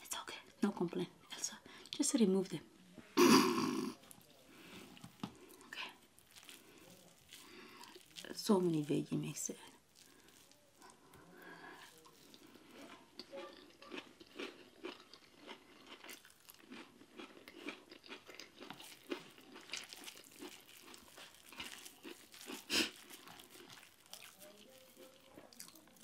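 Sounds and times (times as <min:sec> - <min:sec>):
person chewing food: 0:03.3 - 0:08.8, 0:09.8 - 0:26.0.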